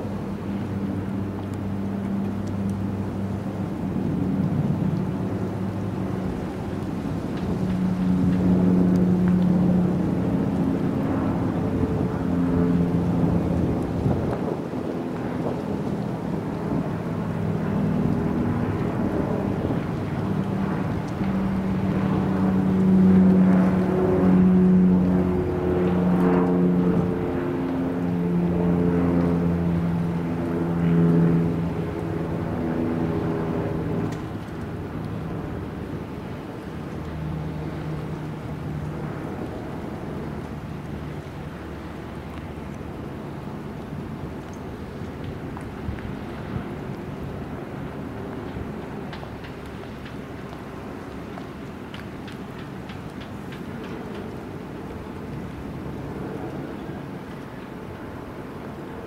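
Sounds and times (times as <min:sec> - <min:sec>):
boat engine humming: 0:00.0 - 0:59.0
wind noise: 0:00.0 - 0:59.0.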